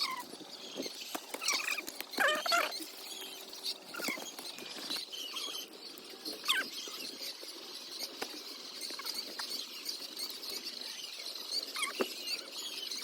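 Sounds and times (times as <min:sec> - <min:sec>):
poultry squeaky calls: 0:00.0 - 0:13.0.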